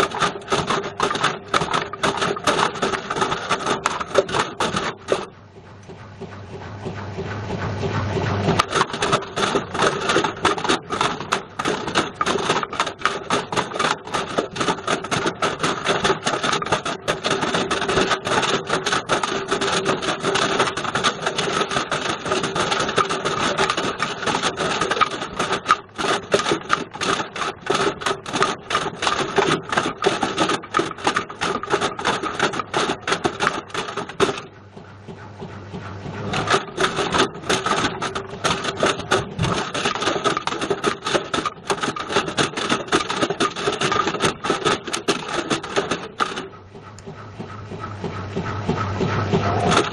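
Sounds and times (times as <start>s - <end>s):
hard knocks clattering in drum: 0.0s - 5.3s, 5.9s - 34.5s, 35.1s - 49.9s
washing machine motor hum: 0.0s - 49.9s.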